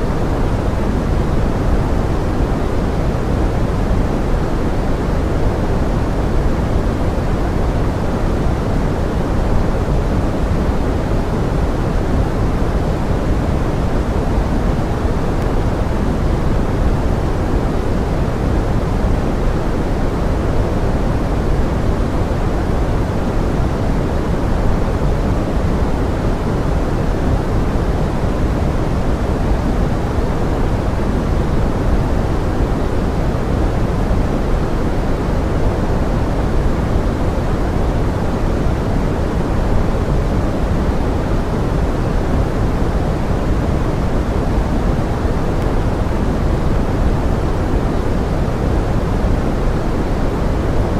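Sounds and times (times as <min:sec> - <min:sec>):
steady pink noise hiss: 0:00.0 - 0:50.9.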